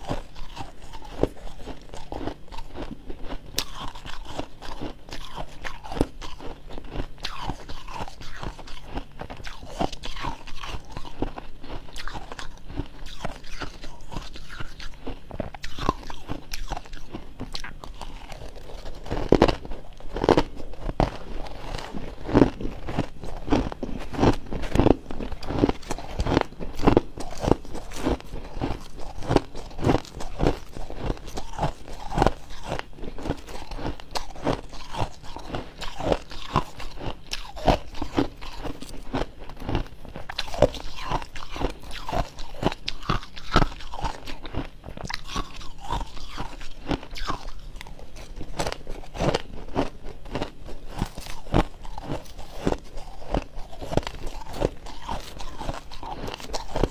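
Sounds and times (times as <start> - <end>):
crunching of frost being chewed: 0.0 - 56.9.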